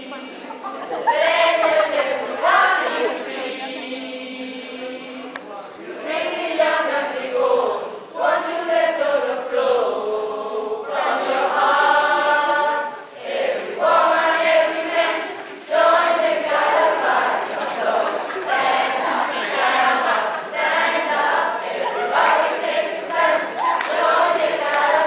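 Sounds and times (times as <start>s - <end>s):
teenagers singing in chorus: 0.0s - 25.0s.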